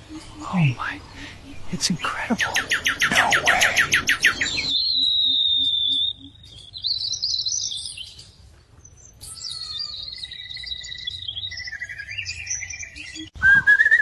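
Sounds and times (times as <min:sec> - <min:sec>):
small bird chirping and trilling: 0:00.1 - 0:13.3.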